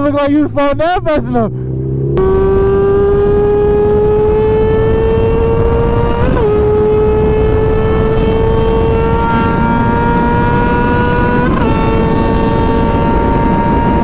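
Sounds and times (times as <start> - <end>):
motorcycle engine at high revs: 1.5 - 14.0
wind noise: 2.2 - 14.0.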